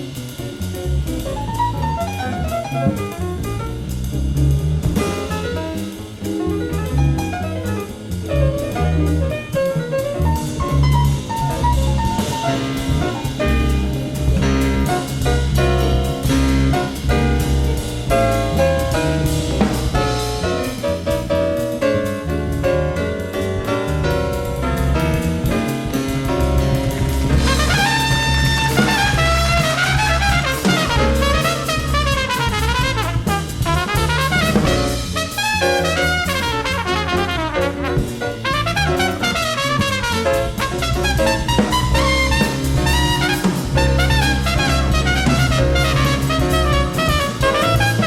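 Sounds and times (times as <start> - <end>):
bass: 0.0 - 48.0
drum kit: 0.0 - 48.0
jazz group playing: 0.0 - 48.0.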